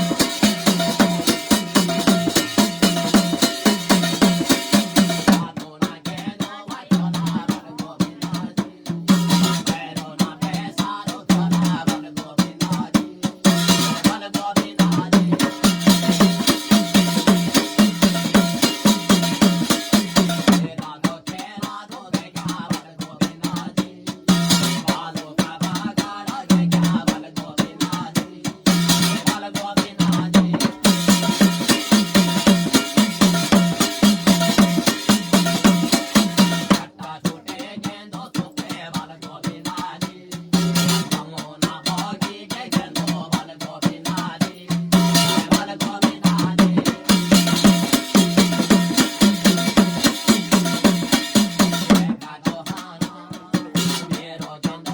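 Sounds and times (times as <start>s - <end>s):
fast folk drumming: 0.0s - 54.9s.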